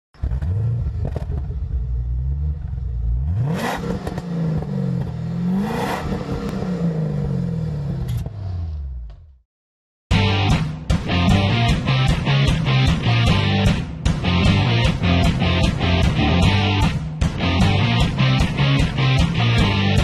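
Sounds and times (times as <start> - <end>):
car engine accelerating: 0.2 - 9.4, 11.3 - 20.0.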